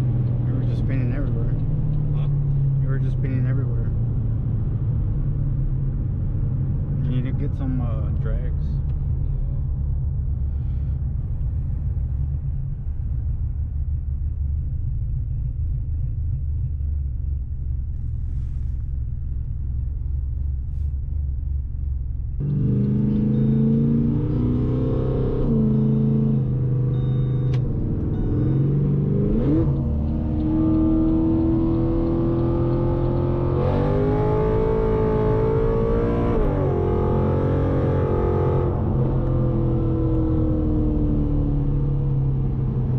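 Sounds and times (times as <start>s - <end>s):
car engine rumble from inside cabin: 0.0s - 42.9s.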